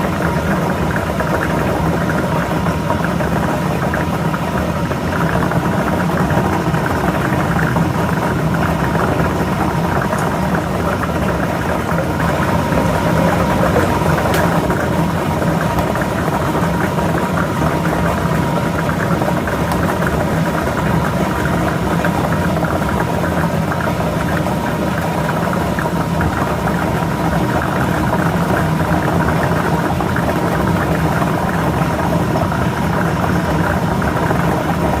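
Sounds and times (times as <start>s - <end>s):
lottery balls mixing: 0.0s - 35.0s.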